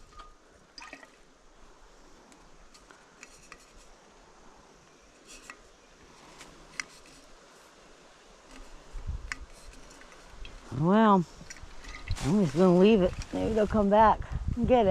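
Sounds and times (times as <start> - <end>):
rustles: 0.0 - 14.5.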